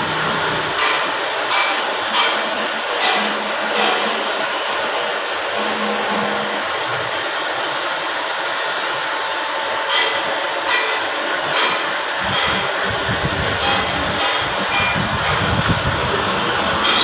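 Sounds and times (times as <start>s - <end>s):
metal lathe whirring hum: 0.0s - 17.0s.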